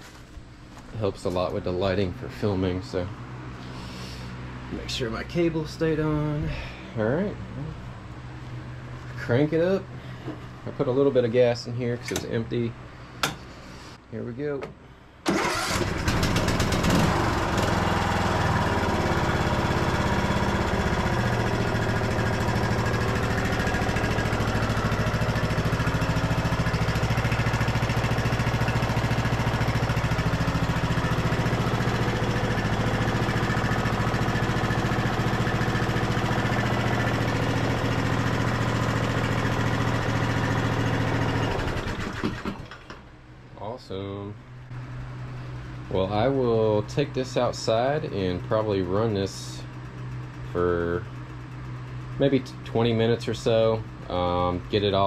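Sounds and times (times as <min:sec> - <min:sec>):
riding mower engine running: 0:00.0 - 0:55.0.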